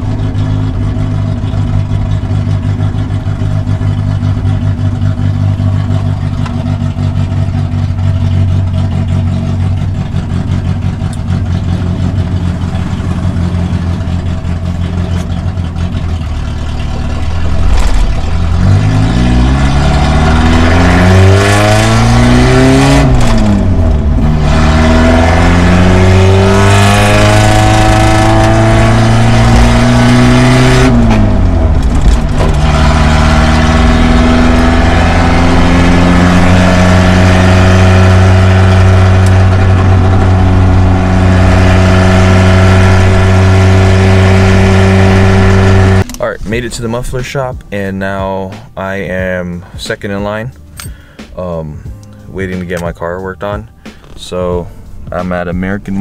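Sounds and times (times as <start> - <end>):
car engine revving: 0.0 - 51.3.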